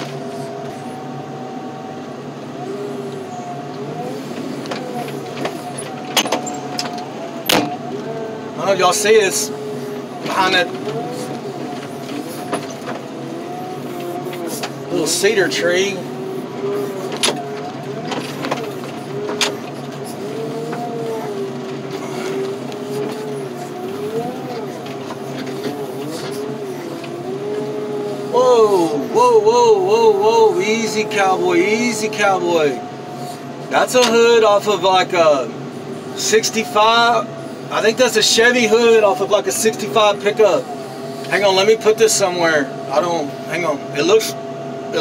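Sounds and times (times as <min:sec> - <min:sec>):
loader engine running: 0:00.0 - 0:45.0
whine shifting in pitch: 0:00.0 - 0:45.0.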